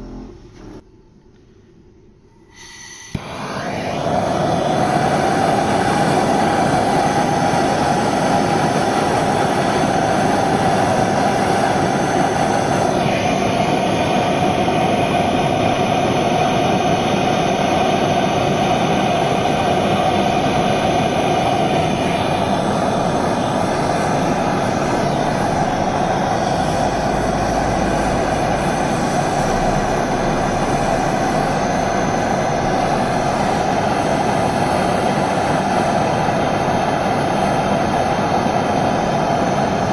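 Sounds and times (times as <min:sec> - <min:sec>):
blowtorch flame burning: 0:02.5 - 0:39.9.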